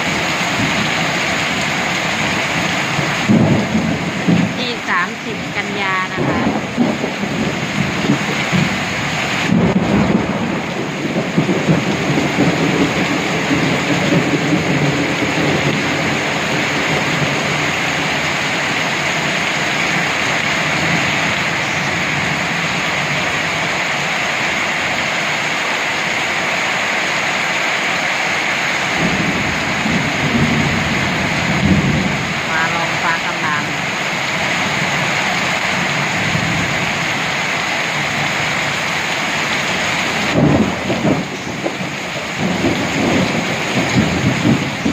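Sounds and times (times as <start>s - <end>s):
thunder rumbling: 0.0s - 25.0s, 28.8s - 44.9s
heavy rain pouring: 0.0s - 44.9s.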